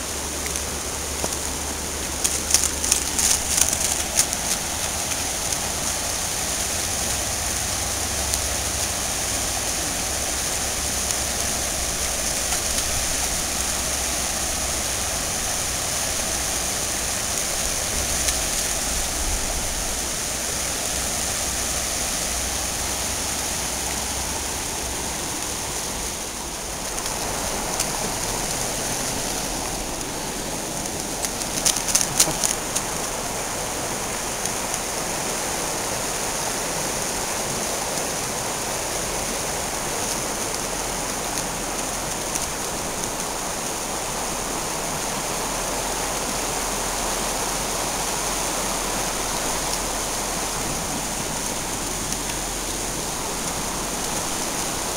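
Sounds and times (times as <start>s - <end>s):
river running over stones: 0.0s - 54.9s.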